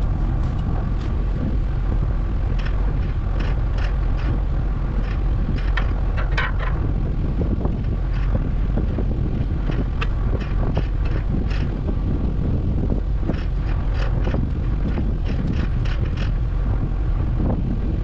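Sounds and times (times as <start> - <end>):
rattling clicks and clanks: 0.0 - 16.9
engine low rumble: 0.0 - 18.0.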